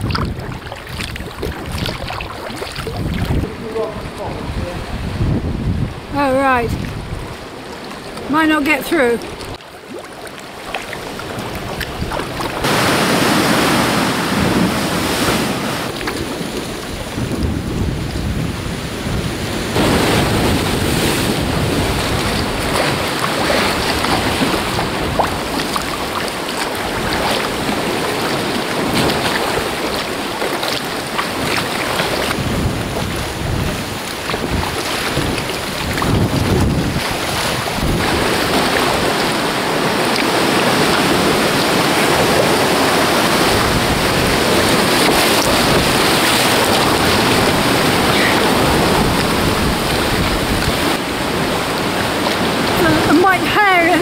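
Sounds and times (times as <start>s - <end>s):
water sloshing and splashing: 0.0s - 5.1s, 5.8s - 54.0s
wind buffeting microphone: 0.0s - 9.6s, 10.9s - 54.0s.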